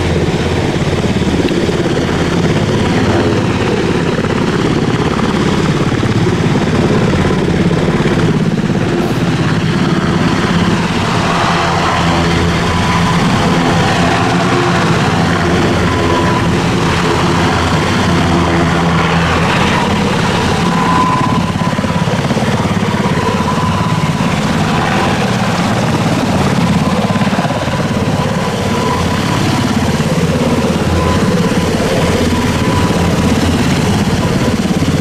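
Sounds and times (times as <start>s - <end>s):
helicopter rotor blades chopping: 0.0s - 35.0s
high turbine whine: 0.0s - 35.0s.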